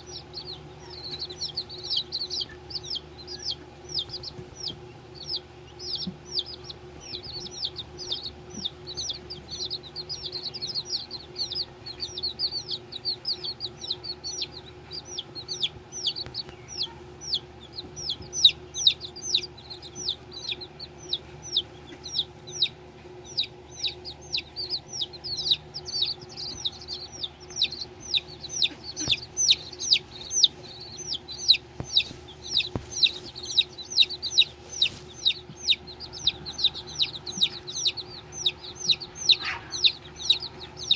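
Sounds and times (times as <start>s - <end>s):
baby chicks peeping: 0.0s - 40.9s
steady low hum: 0.0s - 40.9s.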